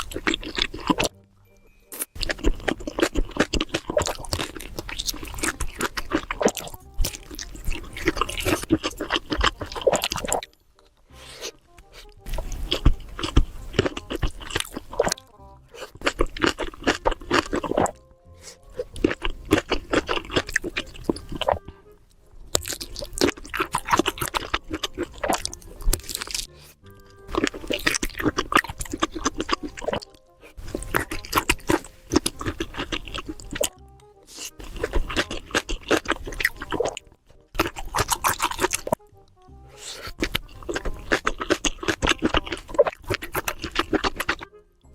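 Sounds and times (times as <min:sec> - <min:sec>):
crunchy wet chewing: 0:00.0 - 0:01.2, 0:01.9 - 0:21.7, 0:22.4 - 0:39.1, 0:39.7 - 0:44.5
background music: 0:00.0 - 0:44.9.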